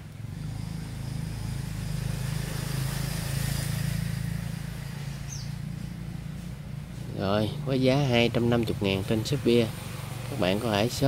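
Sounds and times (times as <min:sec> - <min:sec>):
vehicle engine passing by: 0:00.0 - 0:11.0.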